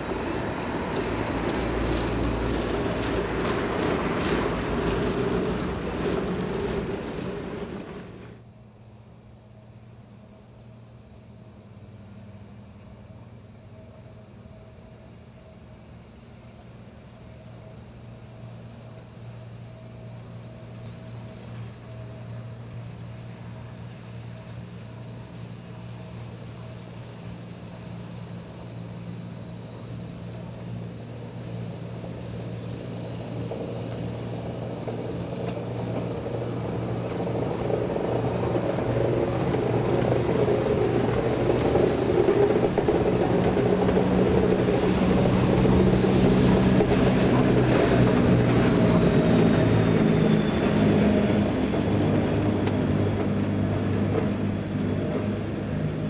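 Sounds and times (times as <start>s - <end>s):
electric train drive hum: 0.0s - 56.0s.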